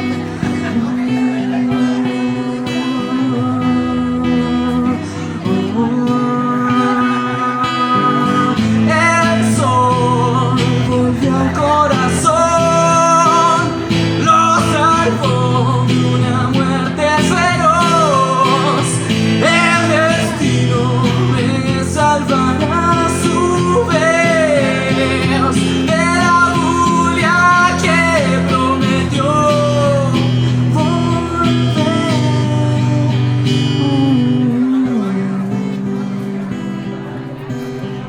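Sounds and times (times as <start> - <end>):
live rock guitar music: 0.0 - 38.0.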